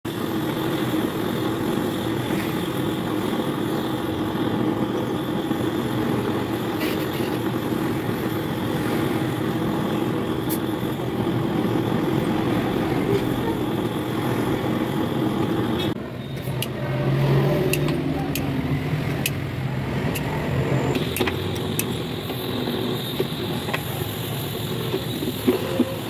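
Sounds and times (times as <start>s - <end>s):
steady mechanical drone: 0.1s - 26.0s.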